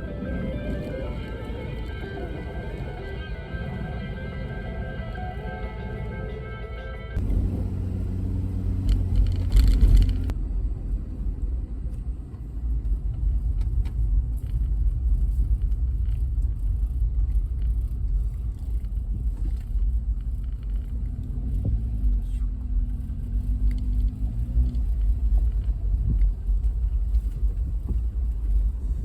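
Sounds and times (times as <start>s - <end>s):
car engine and road rumble: 0.0s - 29.0s
faint engine hum: 0.0s - 29.0s.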